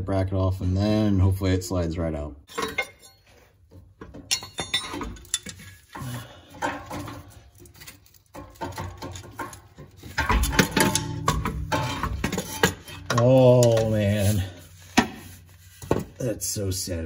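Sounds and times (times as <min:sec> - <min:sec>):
metal knocks clinks and scrapes: 0:02.5 - 0:16.2.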